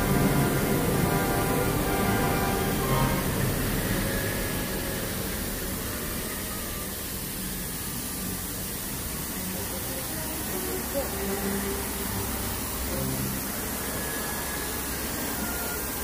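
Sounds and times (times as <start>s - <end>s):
street ambience hiss: 0.0s - 16.0s.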